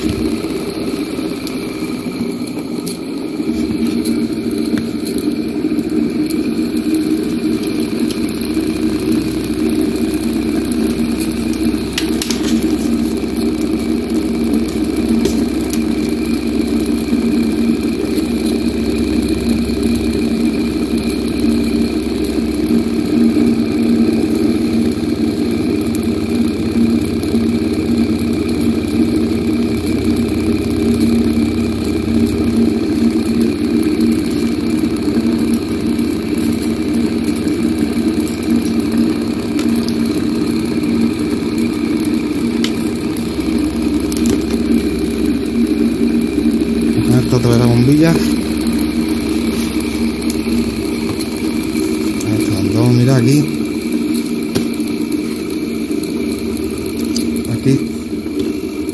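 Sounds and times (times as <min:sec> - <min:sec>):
fan motor whirring hum: 0:00.0 - 0:58.9.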